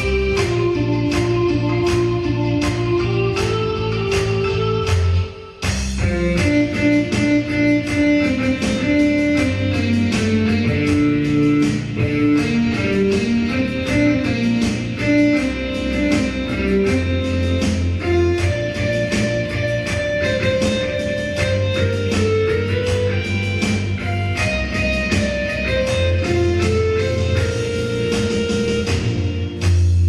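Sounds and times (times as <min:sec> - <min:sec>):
instrumental band music: 0:00.0 - 0:30.0
strummed guitar: 0:00.0 - 0:30.0.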